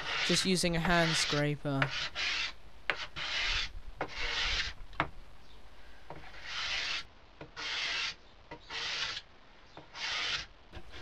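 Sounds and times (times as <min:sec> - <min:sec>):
hand scraper rasping on wood: 0:00.0 - 0:04.7, 0:06.1 - 0:09.2, 0:09.8 - 0:11.0.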